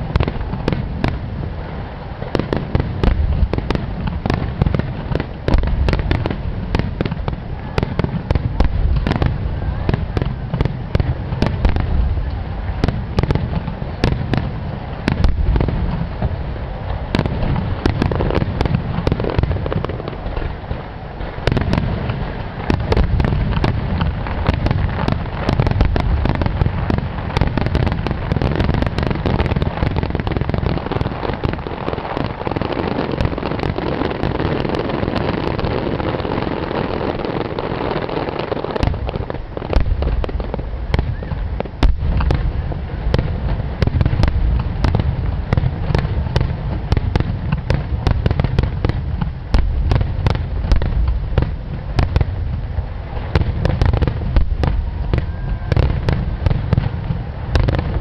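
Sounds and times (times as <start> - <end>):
aerial fireworks booming: 0.0 - 58.0.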